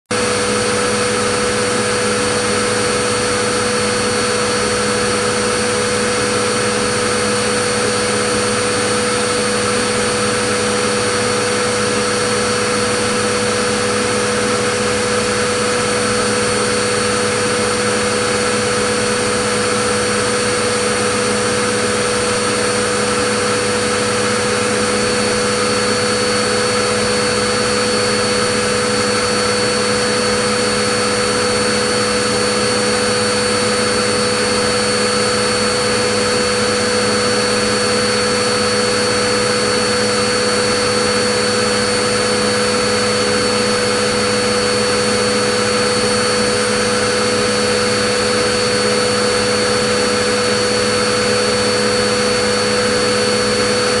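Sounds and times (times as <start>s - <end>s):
vacuum cleaner motor running: 0.0s - 54.0s.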